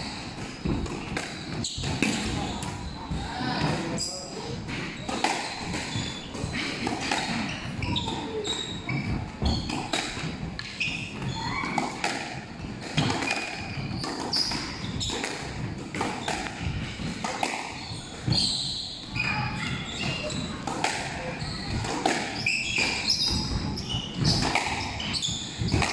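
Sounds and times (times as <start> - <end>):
squash ball hits: 0.4 - 3.9, 4.5 - 18.7, 20.3 - 25.9
shoes squeaking on wooden floor: 0.6 - 25.9.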